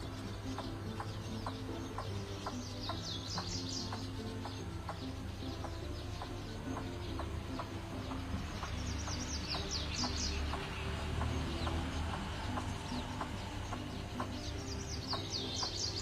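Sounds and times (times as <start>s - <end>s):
waterhens clucking: 0.0s - 16.0s.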